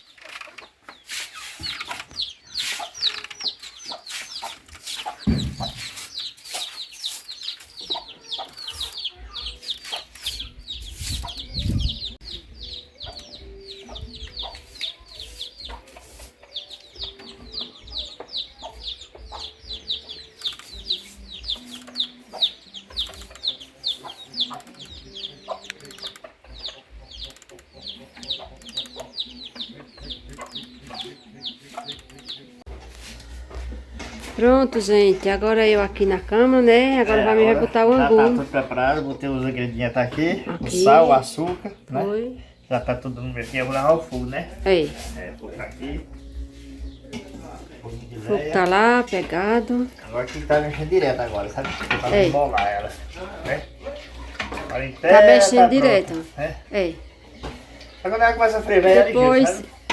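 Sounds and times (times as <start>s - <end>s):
chickens clucking: 0.0s - 59.9s
chicks peeping: 0.0s - 59.9s.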